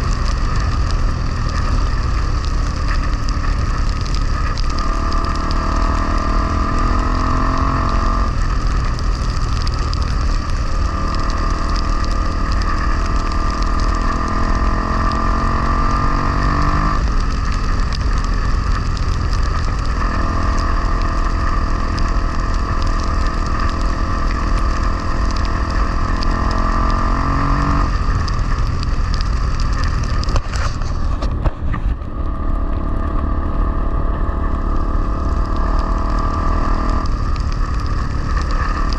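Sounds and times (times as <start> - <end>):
motorcycle engine revving: 0.0 - 38.9
wind rumble on microphone: 0.0 - 38.9.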